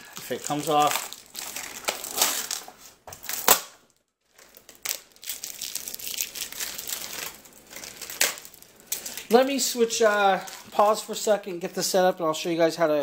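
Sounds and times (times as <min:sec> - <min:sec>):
plastic film crinkling: 0:00.0 - 0:11.4.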